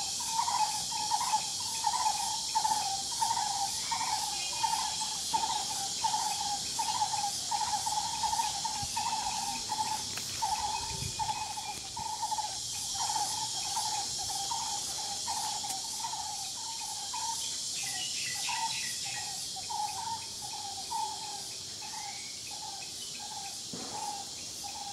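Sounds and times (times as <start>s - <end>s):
high-pitched insect chorus: 0.0s - 24.9s
lower repeating insect call: 0.0s - 24.9s.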